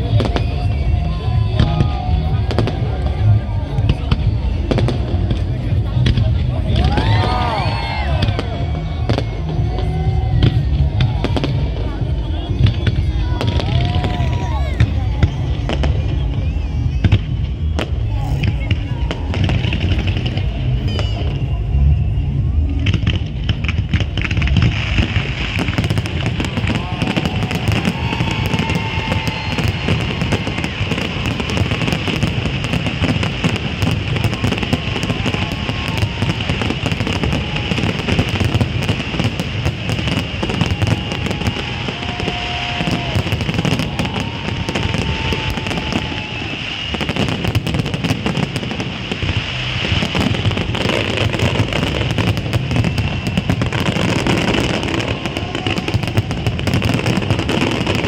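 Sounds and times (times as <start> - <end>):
fireworks crackling and banging: 0.0 - 58.0
music: 0.0 - 58.0.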